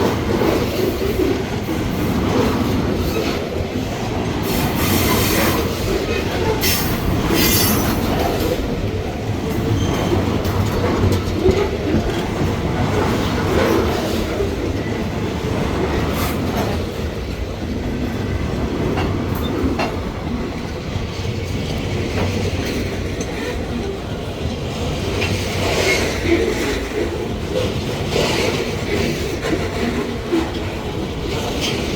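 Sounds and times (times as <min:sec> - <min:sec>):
train wheels rumbling on track: 0:00.0 - 0:31.9
wheels clicking over rail joints: 0:00.0 - 0:31.9.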